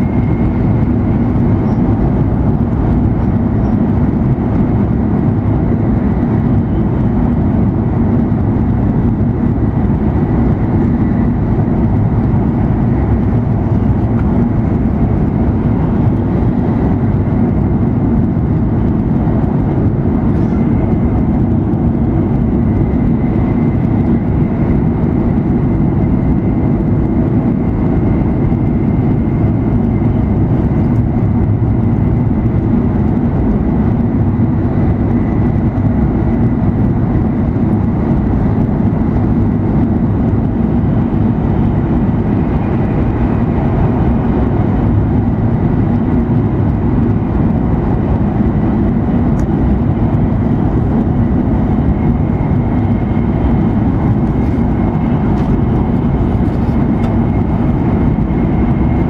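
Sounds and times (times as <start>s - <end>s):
train cabin low rumble: 0.0s - 59.0s.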